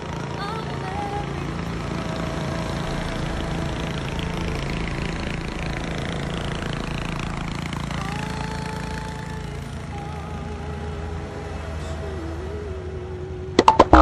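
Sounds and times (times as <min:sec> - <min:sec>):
small tractor engines driving by: 0:00.0 - 0:14.0.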